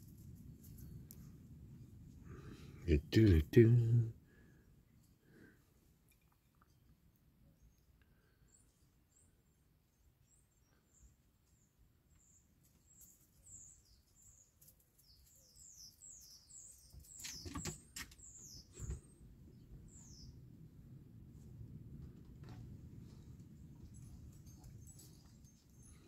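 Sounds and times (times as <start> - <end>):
songbird chirping: 0.0 - 20.9, 23.0 - 26.0.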